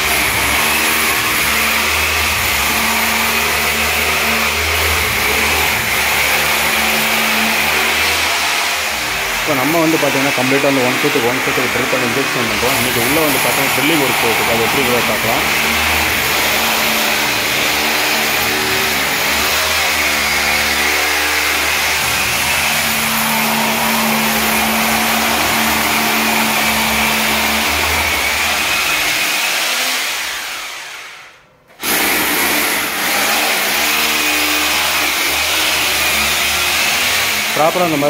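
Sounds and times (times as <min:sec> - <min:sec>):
electric drill running under load: 0:00.0 - 0:38.0.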